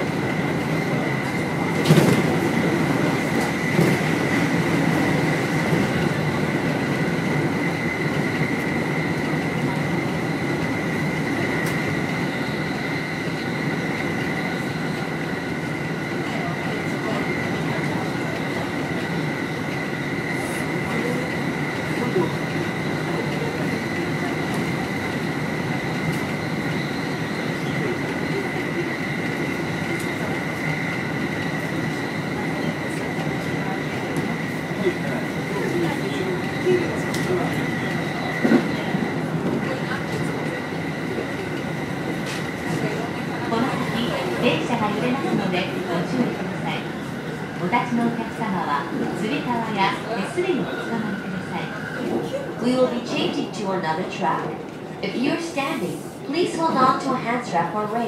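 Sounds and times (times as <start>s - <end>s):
high electric train whine: 0.0s - 58.0s
rumble of train wheels on rail: 0.0s - 58.0s.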